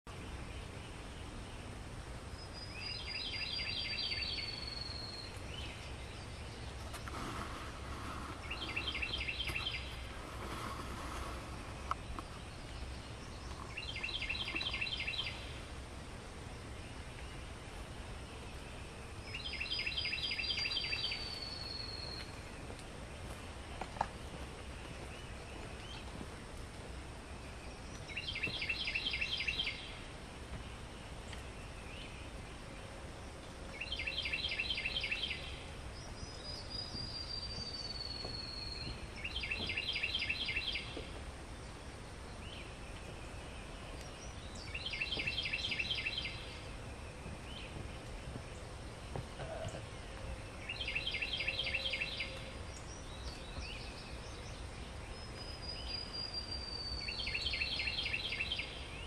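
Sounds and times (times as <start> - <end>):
bird chirping: 0.1 - 15.8, 16.4 - 26.5, 27.1 - 59.0
outdoor background noise: 0.1 - 59.0
songbird singing: 0.1 - 59.0.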